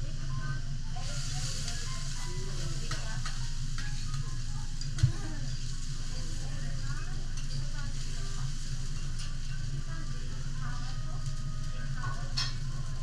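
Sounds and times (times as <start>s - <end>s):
beef sizzling on a griddle: 0.7s - 13.0s.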